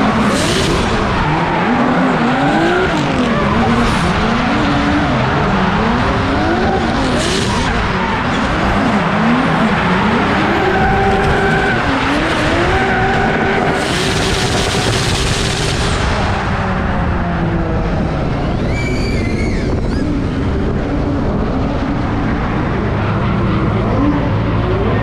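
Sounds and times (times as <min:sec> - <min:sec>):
car engine revving: 0:00.0 - 0:18.6, 0:20.0 - 0:25.0.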